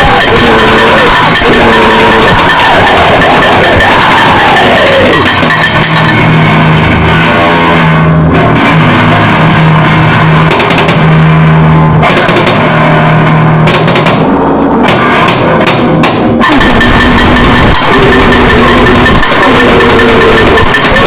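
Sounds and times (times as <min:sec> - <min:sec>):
distorted wall of noise: 0:00.0 - 0:21.0
steady low drone: 0:00.0 - 0:21.0.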